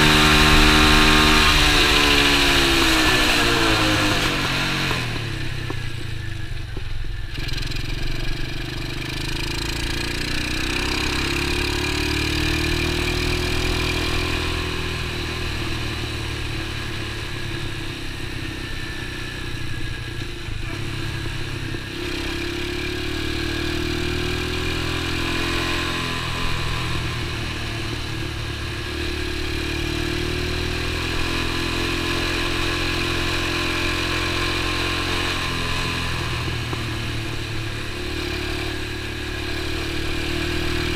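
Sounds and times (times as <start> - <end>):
small engine accelerating: 0.0 - 6.0, 7.3 - 40.9
wind and road noise: 0.0 - 40.9.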